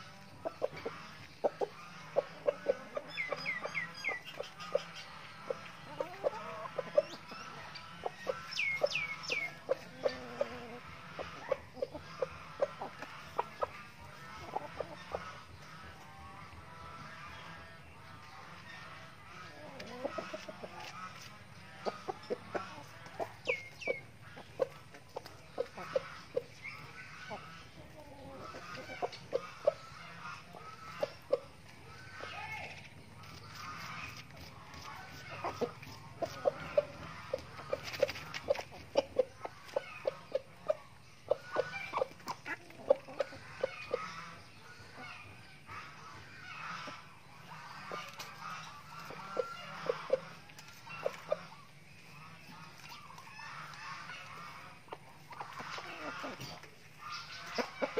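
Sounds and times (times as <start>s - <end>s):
chickens clucking: 0.0s - 57.9s
soft high chicken chatter: 0.0s - 57.9s.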